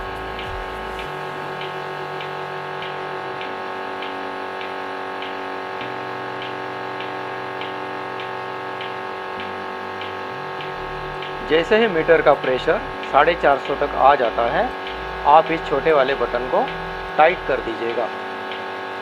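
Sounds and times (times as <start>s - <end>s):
pulsator ticking: 0.0s - 19.0s
vacuum pump humming: 0.0s - 19.0s.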